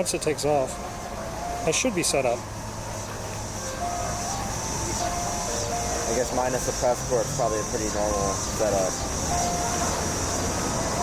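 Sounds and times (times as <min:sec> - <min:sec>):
constant high hiss: 0:00.0 - 0:11.0
low engine rumble: 0:00.0 - 0:11.0.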